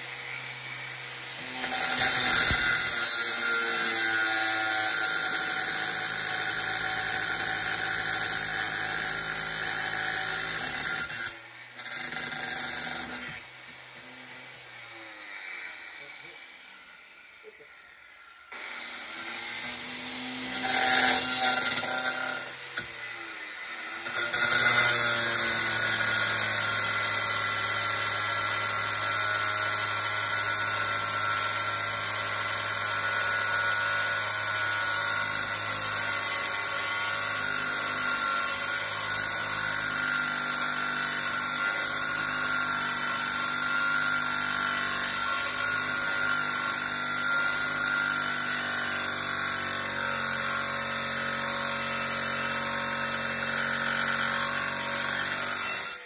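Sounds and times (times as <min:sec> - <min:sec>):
angle grinder cutting metal: 0:00.0 - 0:56.0.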